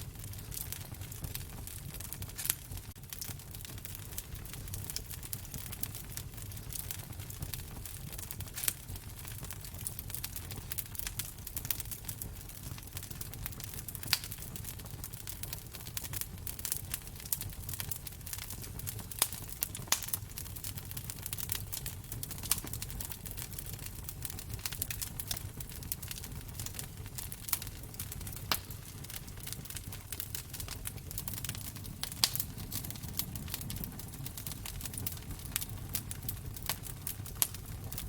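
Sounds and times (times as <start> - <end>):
sharp pops of fire: 0.0 - 38.0
wood fire crackling: 0.0 - 38.0.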